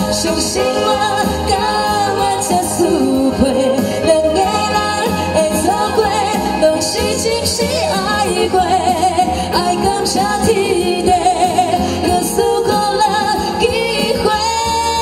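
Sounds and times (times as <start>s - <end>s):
backing singer: 0.0s - 15.0s
keyboard: 0.0s - 15.0s
woman singing into a microphone: 0.0s - 15.0s.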